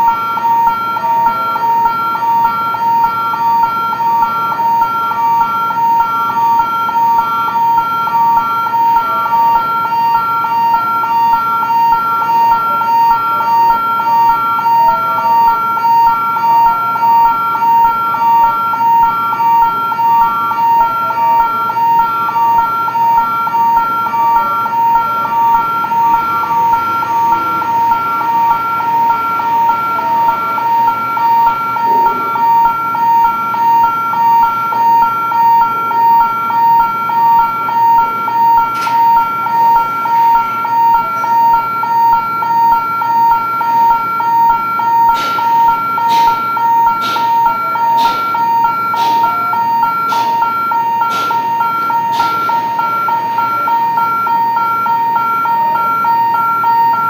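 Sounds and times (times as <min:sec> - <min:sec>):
two-tone electronic alarm beeping: 0:00.0 - 0:57.0.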